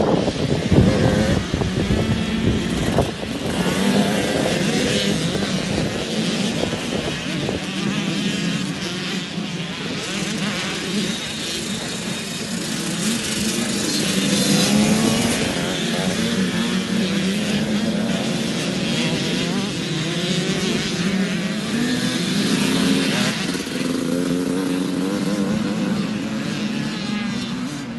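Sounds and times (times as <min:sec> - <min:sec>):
motocross bikes revving: 0:00.0 - 0:27.9.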